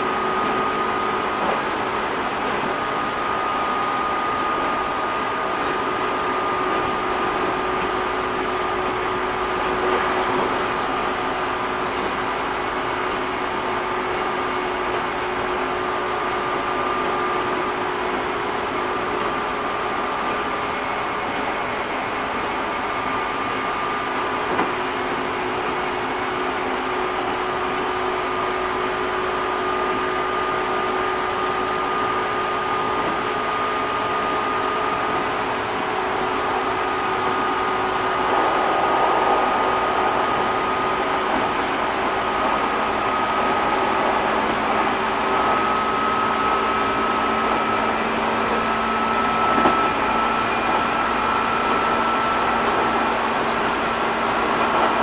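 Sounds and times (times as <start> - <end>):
train running gear whine: 0.0 - 55.0
wheels rumbling on rail: 0.0 - 55.0.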